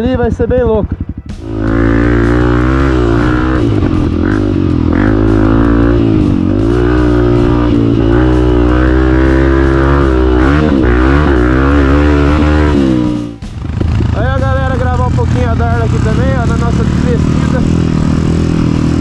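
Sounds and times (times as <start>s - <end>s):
background guitar music: 0.0s - 19.0s
dirt bike engine revving: 0.0s - 19.0s.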